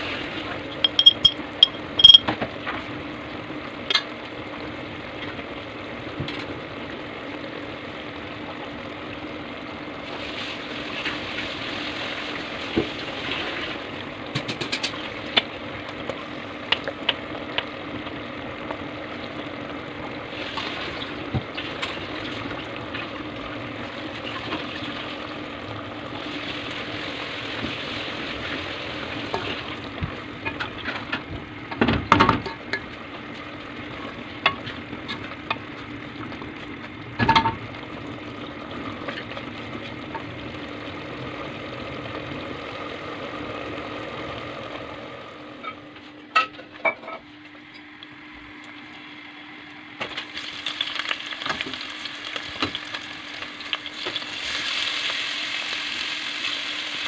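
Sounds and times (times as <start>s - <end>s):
chillies sizzling in hot oil: 0.0s - 45.9s, 46.7s - 57.0s
mince sizzling in a pot: 0.0s - 57.0s.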